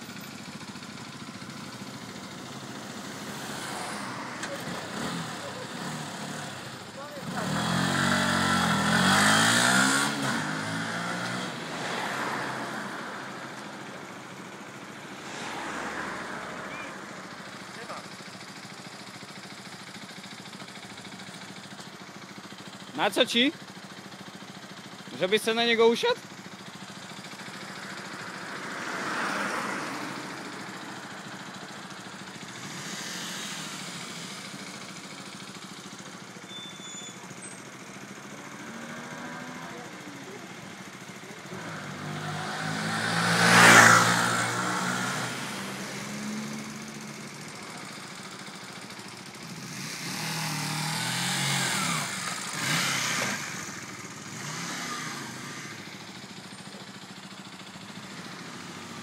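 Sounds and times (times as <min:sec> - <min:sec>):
motorcycles passing by: 0:00.0 - 0:36.5, 0:37.1 - 0:59.0.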